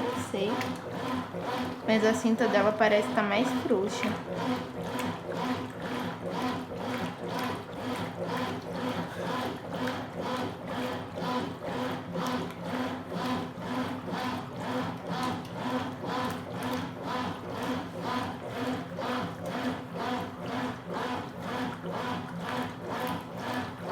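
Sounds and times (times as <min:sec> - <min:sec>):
rhythmic water swishing: 0:00.0 - 0:23.9
washing machine motor hum: 0:00.0 - 0:23.9.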